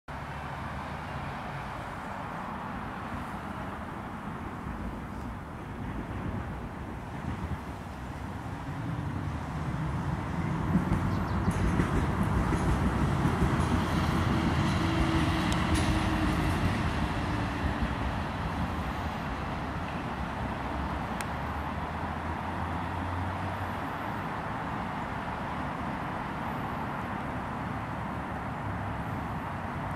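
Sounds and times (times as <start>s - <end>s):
passing motor vehicle rumbling: 0.1s - 29.9s.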